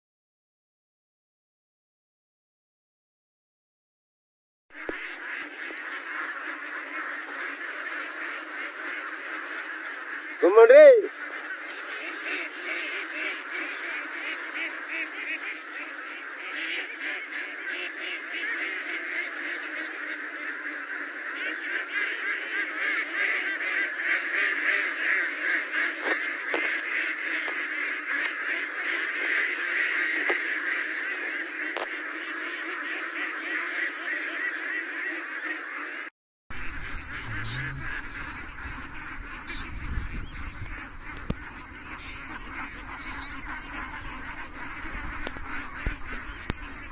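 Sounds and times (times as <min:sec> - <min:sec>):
flock of ducks quacking: 0:04.8 - 0:46.9.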